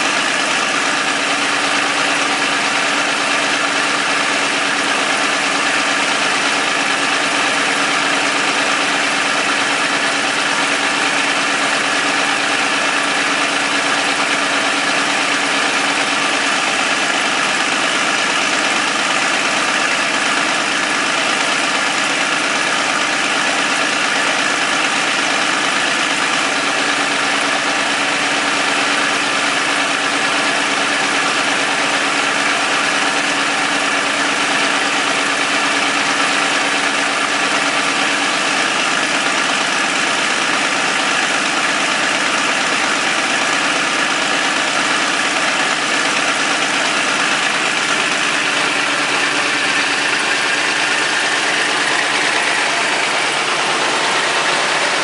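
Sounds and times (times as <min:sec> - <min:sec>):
diesel engine running steadily: 0:00.0 - 0:55.0.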